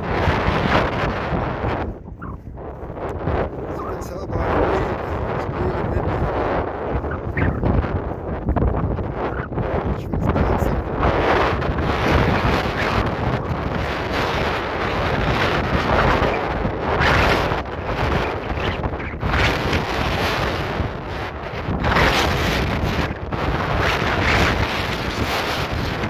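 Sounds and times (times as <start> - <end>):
gusting wind on microphone: 0.0 - 26.0.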